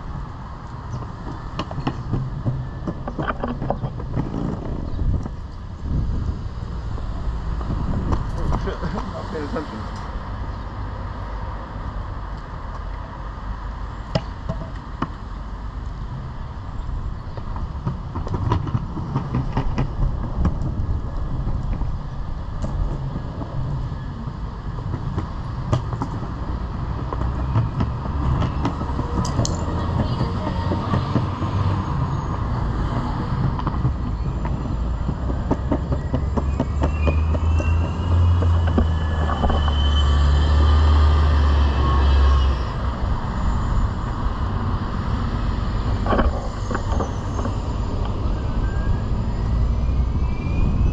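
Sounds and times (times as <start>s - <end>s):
longboard wheels rolling on pavement: 0.0s - 50.9s.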